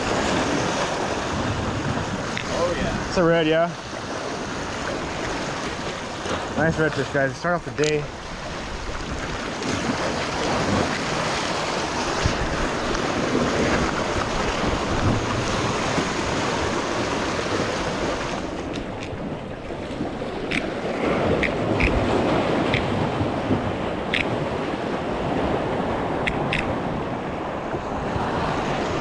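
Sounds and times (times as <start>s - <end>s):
wind buffeting microphone: 0.0s - 6.6s, 8.1s - 29.0s
waves breaking against rocks: 0.0s - 29.0s.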